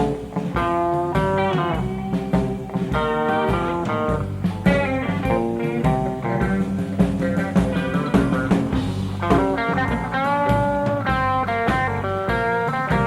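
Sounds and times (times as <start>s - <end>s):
blues-rock band playing: 0.0s - 13.0s
electric guitar lead lines: 0.0s - 13.0s.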